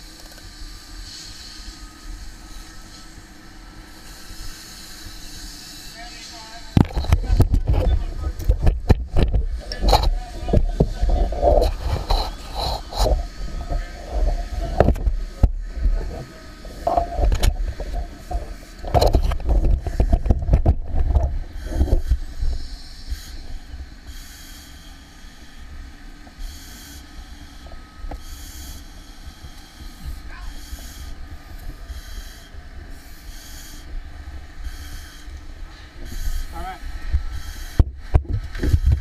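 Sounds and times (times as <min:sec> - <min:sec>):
breathing regulator hiss: 0:00.0 - 0:08.5, 0:09.2 - 0:20.4, 0:21.0 - 0:37.8
engines rumbling: 0:01.9 - 0:39.0.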